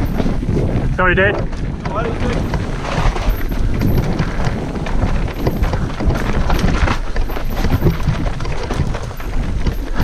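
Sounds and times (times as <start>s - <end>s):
bike knocking and rattling: 0.0s - 10.0s.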